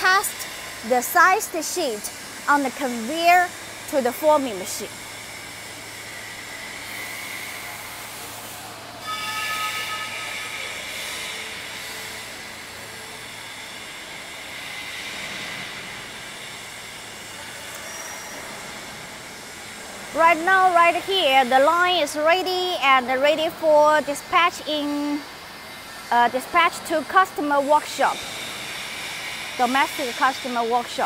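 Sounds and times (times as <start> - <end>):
factory machinery hum: 0.0 - 31.0
whining machine tone: 0.0 - 31.0.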